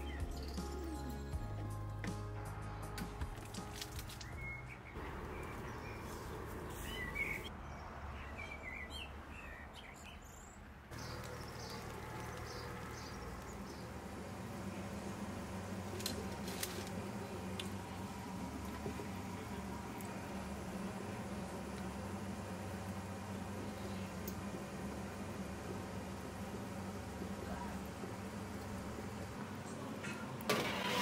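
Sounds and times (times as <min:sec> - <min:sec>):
birds chirping: 0:00.0 - 0:30.4.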